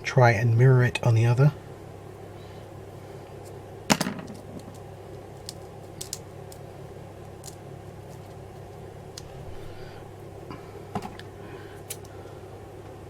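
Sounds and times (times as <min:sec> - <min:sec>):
low hum: 0:01.5 - 0:13.0.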